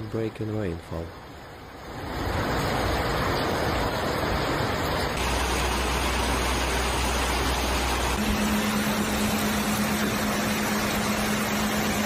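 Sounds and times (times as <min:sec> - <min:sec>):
floodwater rushing: 0:00.6 - 0:12.0.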